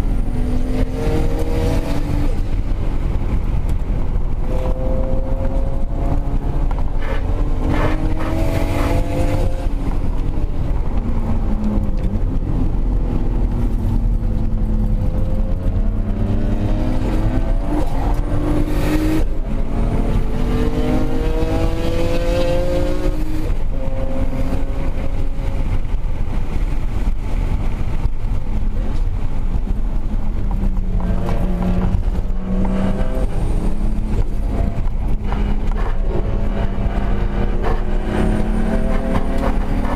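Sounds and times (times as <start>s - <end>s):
constant low rumble: 0.0s - 39.9s
sports car engines revving: 0.0s - 39.9s.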